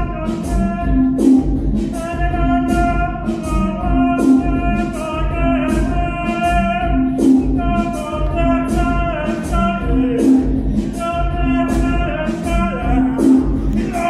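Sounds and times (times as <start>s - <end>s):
kick and hi-hat beat: 0.0s - 14.0s.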